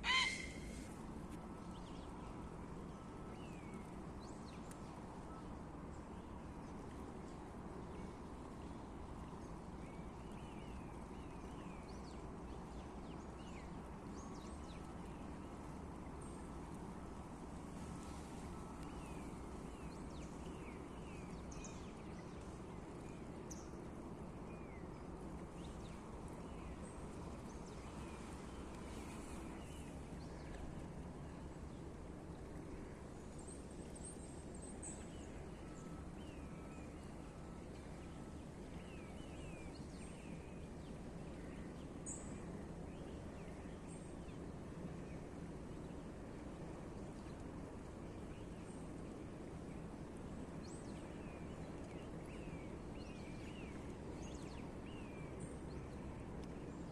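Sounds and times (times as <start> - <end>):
low background rumble: 0.0 - 56.9.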